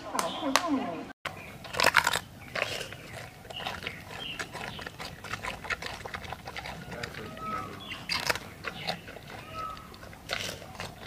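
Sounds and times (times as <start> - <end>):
panda crunching bamboo: 1.3 - 11.0.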